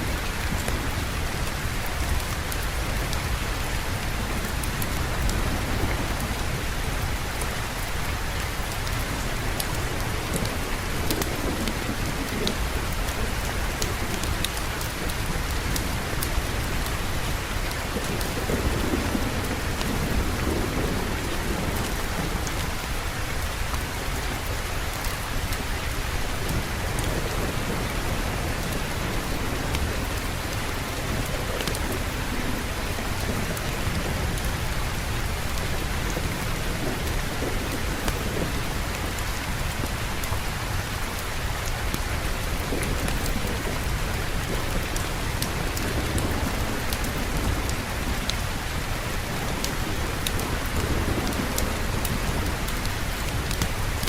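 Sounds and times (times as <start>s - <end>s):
rain pouring: 0.0s - 54.0s.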